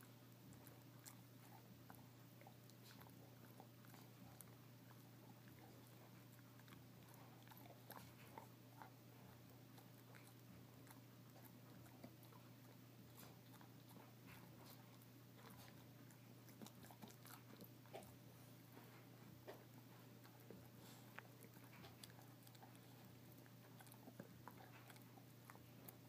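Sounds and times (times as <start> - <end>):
dog gnawing on a chew: 0.0 - 26.0.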